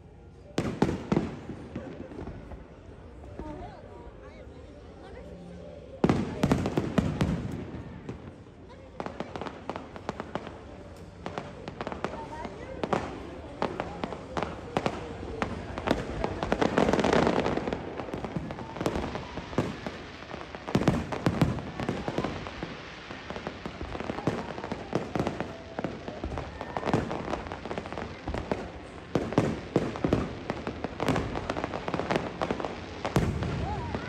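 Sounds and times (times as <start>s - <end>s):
fireworks bangs and crackling: 0.4s - 3.6s, 6.0s - 34.0s.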